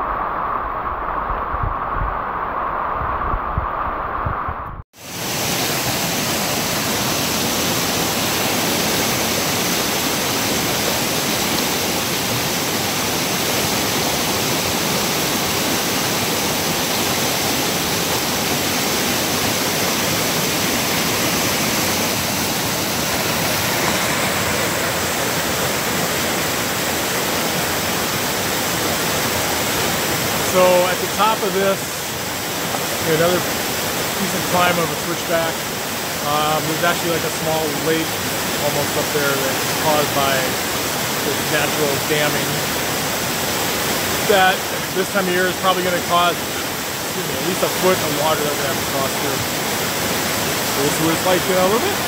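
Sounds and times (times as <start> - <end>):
water rushing over rocks: 0.0 - 52.0.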